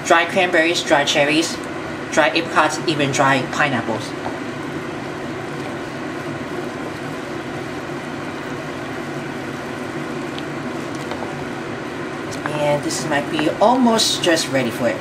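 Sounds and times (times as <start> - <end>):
fan humming and hissing: 0.0 - 15.0.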